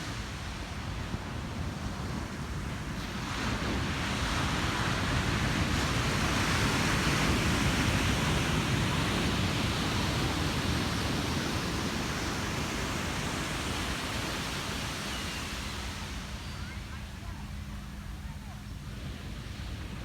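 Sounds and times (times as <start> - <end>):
ocean waves breaking: 1.4 - 20.0.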